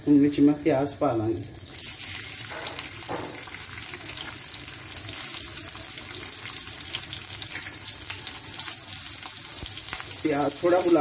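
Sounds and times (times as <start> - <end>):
onions sizzling in hot oil: 1.5 - 11.0.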